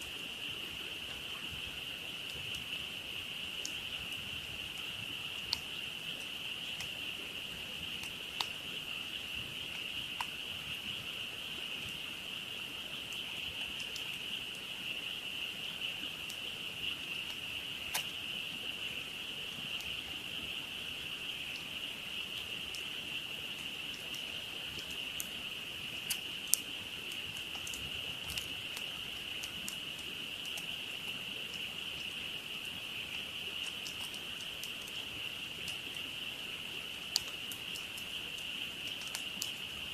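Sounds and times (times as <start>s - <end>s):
campfire popping and crackling: 0.0s - 12.0s, 12.8s - 39.9s
frogs calling: 0.0s - 39.9s.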